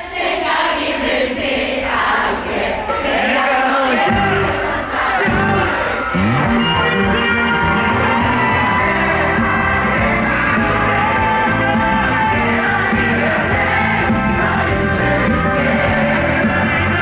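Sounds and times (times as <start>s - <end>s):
live pop-rock band with vocals: 0.0s - 17.0s
audience shouting: 2.3s - 17.0s.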